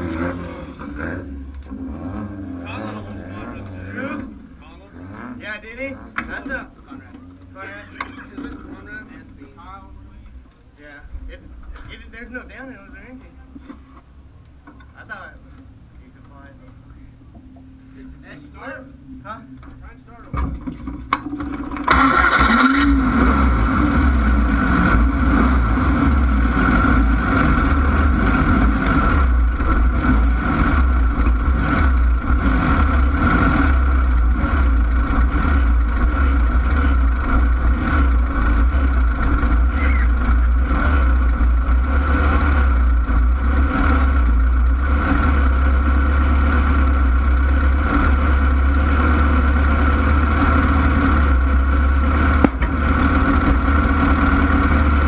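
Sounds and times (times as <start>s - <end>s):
race car engine running: 0.0s - 55.0s.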